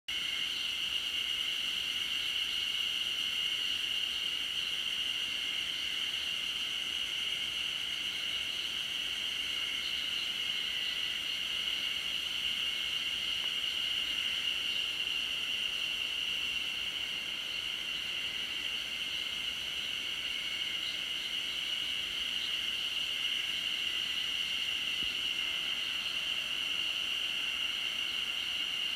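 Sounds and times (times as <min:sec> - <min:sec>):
cicadas droning: 0:00.1 - 0:28.9.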